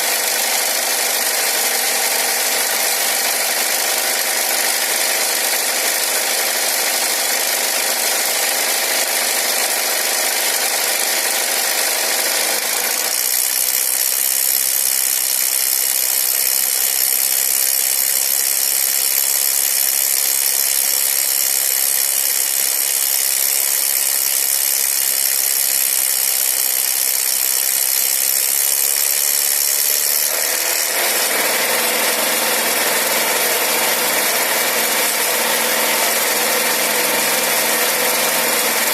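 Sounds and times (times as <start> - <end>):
car engine running with knock: 0.0 - 38.9.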